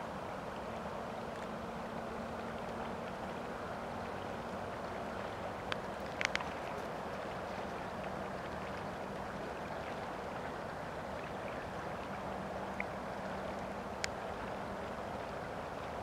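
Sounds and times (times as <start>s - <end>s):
rippling water: 0.0s - 16.0s
wind: 0.0s - 16.0s.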